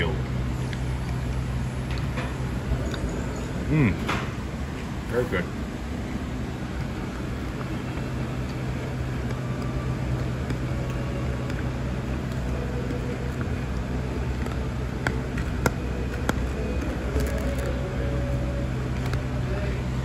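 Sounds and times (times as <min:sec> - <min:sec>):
cafe background hum: 0:00.0 - 0:20.0.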